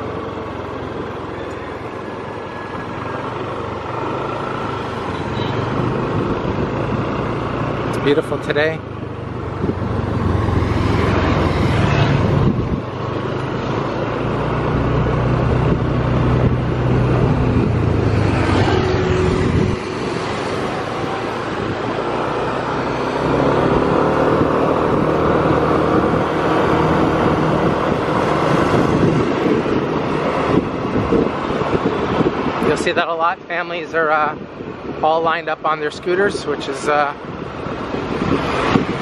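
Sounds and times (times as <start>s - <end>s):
road noise: 0.0s - 39.0s
car passing: 1.9s - 32.7s, 37.1s - 39.0s.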